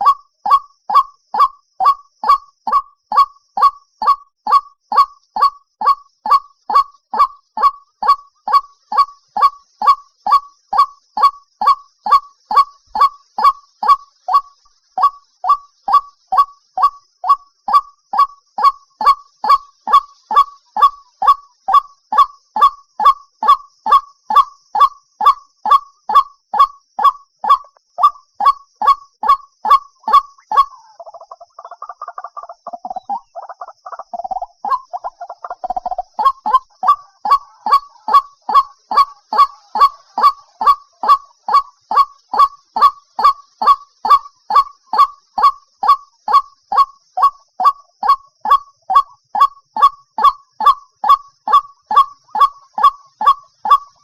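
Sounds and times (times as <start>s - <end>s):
bird chattering: 0.0s - 54.0s
waterhen calling: 0.0s - 54.0s.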